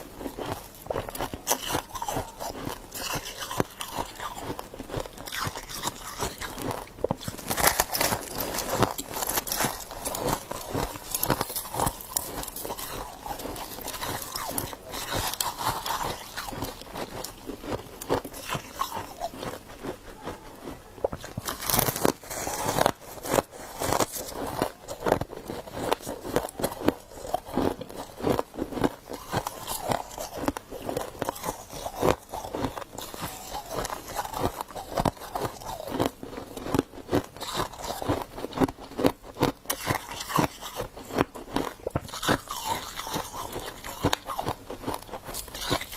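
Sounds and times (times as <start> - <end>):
ice crunching and chewing: 0.0 - 45.9.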